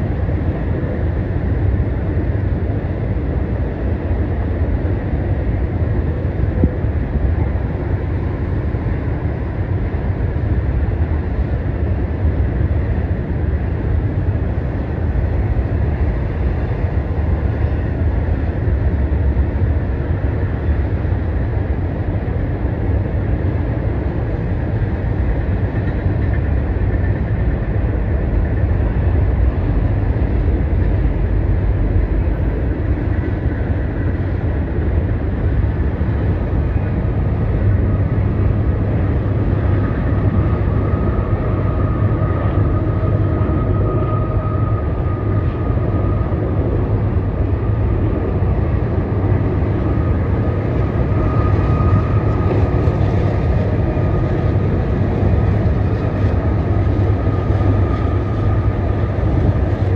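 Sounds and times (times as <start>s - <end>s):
freight train rumbling across bridge: 0.0s - 59.9s.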